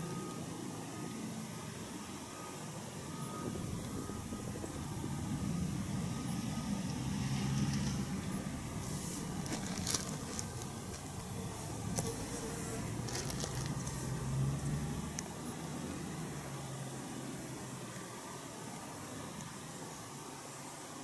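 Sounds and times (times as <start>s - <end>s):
distant motor vehicle engine hum: 0.0s - 21.0s.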